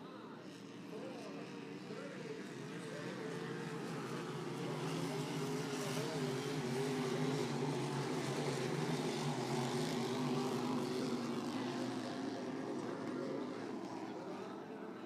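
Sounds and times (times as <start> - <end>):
racing boat engine drone: 0.0 - 15.0.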